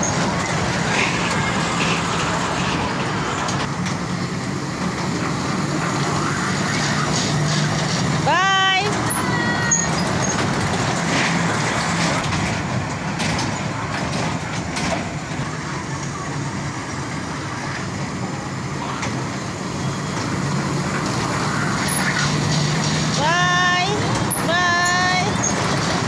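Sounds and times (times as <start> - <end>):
amusement ride mechanical rumble: 0.0 - 26.0.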